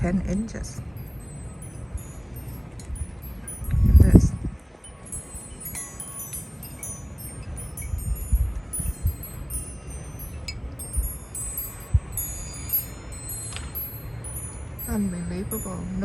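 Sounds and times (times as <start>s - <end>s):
metal wind chimes ringing: 0.0s - 16.0s
wind rumble on microphone: 0.0s - 16.0s.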